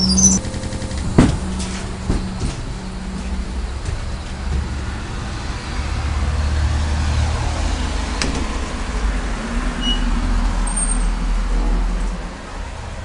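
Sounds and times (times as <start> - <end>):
elevator hum and rumble: 0.0 - 13.0.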